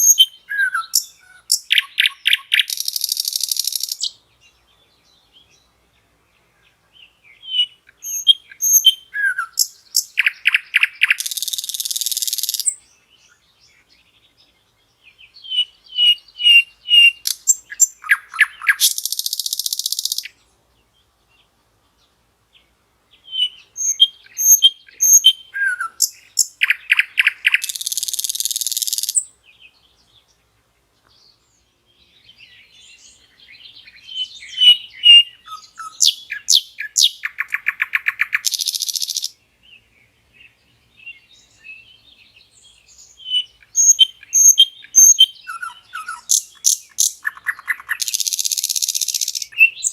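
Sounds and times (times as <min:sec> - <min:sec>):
nightingale singing: 0:00.0 - 0:49.9.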